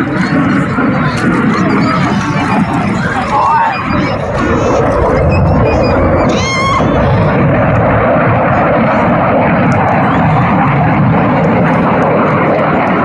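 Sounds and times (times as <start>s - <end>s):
airplane engine in flight: 0.0s - 13.0s.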